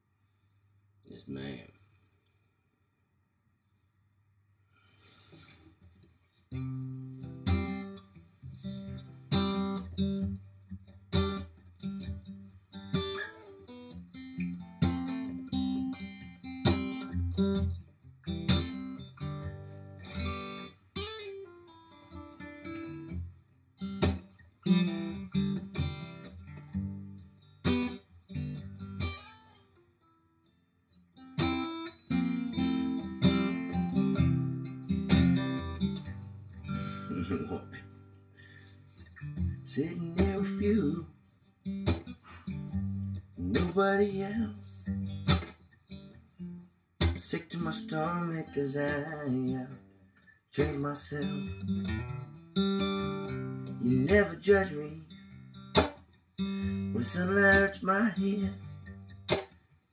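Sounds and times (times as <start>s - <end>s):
acoustic guitar playing: 6.5s - 50.0s, 50.6s - 59.6s.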